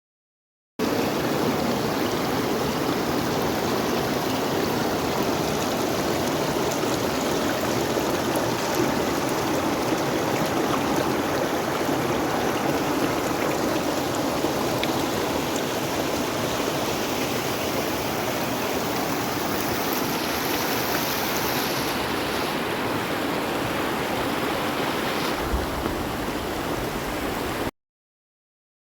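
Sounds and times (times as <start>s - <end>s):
mountain river rushing: 0.8s - 27.7s.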